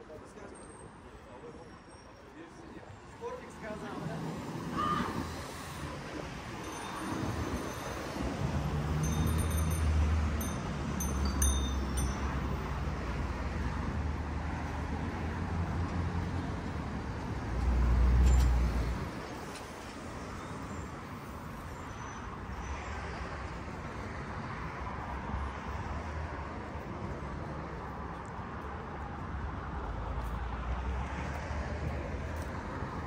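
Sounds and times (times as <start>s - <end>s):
street traffic noise: 0.0s - 33.0s.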